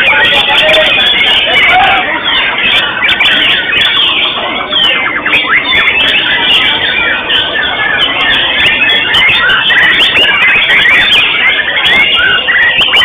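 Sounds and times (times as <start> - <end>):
birds singing chirps and whistles: 0.0 - 13.0.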